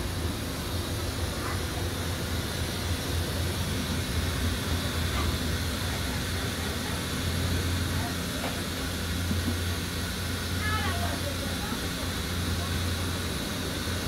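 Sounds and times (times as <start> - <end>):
low drone of aircraft machinery: 0.0 - 14.0.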